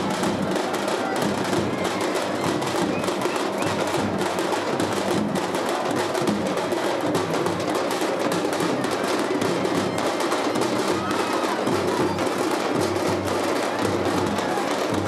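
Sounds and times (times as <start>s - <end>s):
fast processional drumming: 0.0s - 15.0s
large crowd hubbub: 0.0s - 15.0s.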